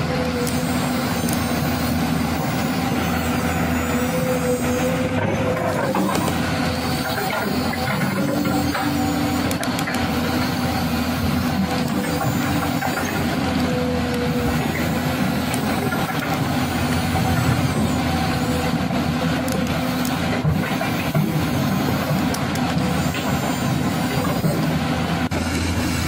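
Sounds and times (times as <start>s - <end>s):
steady motor drone: 0.0s - 26.0s.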